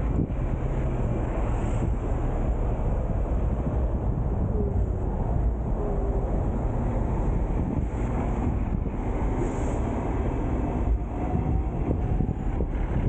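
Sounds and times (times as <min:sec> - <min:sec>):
tram running on tracks: 0:00.0 - 0:13.0
wind buffeting microphone: 0:00.0 - 0:13.0.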